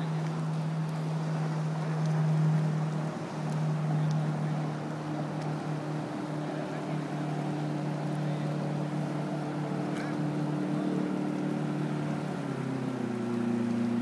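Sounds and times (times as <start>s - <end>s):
motorboat engine droning: 0.0s - 14.0s
river water rushing: 0.0s - 14.0s.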